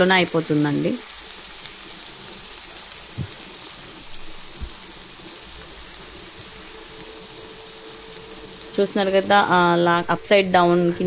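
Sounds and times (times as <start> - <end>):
vegetables frying in hot oil: 0.0 - 11.0.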